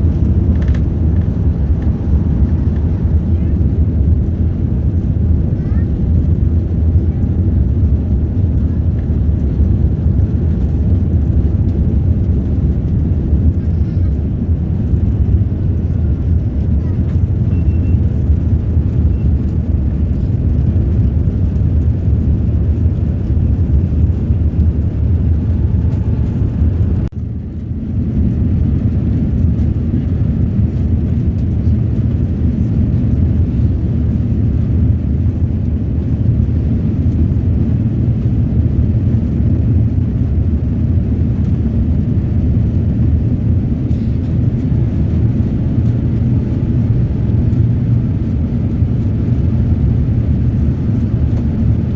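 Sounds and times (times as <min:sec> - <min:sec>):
jet engine cabin rumble: 0:00.0 - 0:51.9.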